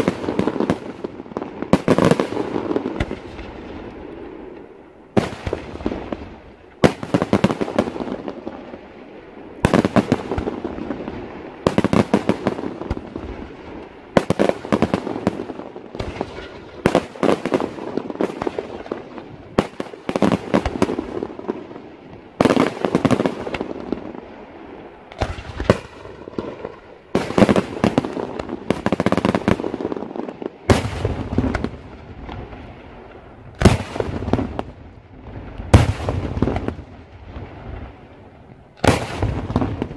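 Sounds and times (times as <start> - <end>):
deep fireworks booms: 0.0 - 39.9
fireworks bursting with sharp bangs: 0.0 - 39.9
fireworks crackling: 0.0 - 39.9.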